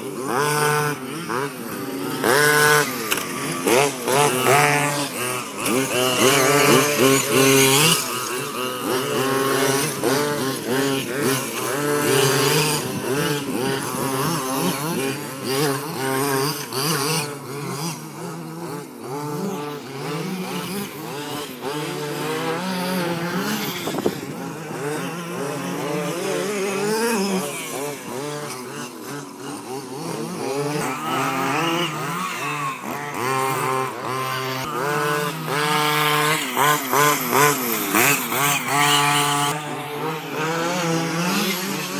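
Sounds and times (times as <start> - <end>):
small two-stroke engines revving: 0.0 - 41.9.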